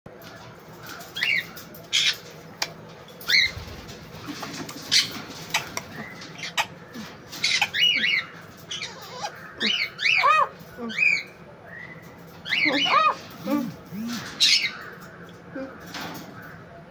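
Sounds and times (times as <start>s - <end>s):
parrots chirping and squawking: 0.3s - 11.4s, 12.0s - 16.4s.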